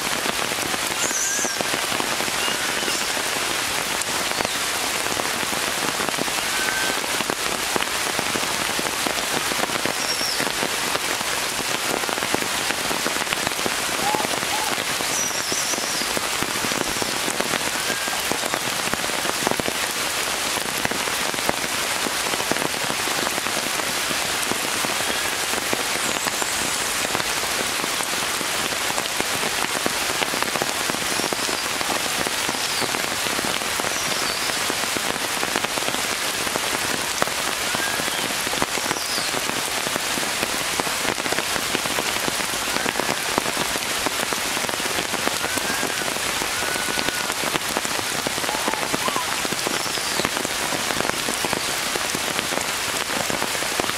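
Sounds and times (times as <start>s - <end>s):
rain falling on leaves: 0.0s - 53.9s.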